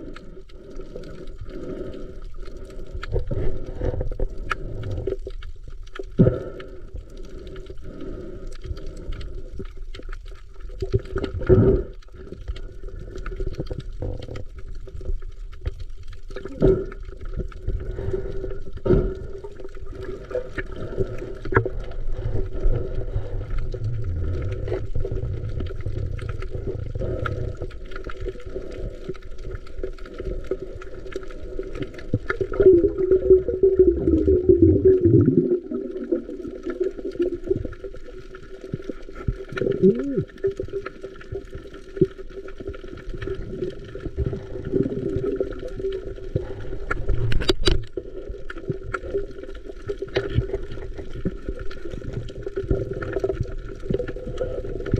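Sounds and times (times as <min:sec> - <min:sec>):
muffled water sloshing and bubbling: 0:00.0 - 0:54.9
water churning: 0:06.0 - 0:54.9.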